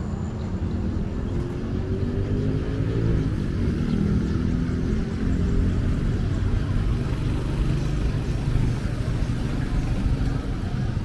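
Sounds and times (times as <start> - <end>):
motorcycle engines: 0.0 - 11.0
street traffic rumble: 0.0 - 11.0.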